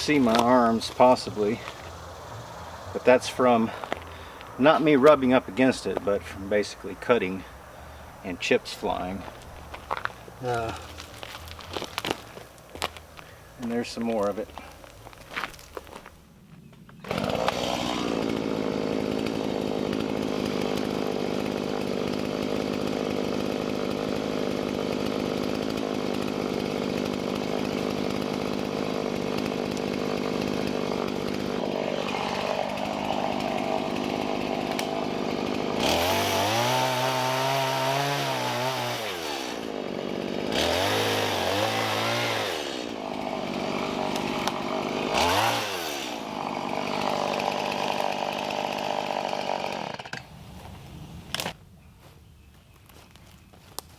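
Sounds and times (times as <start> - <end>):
chainsaw running and revving: 0.0 - 7.5, 8.2 - 13.0, 13.8 - 51.6.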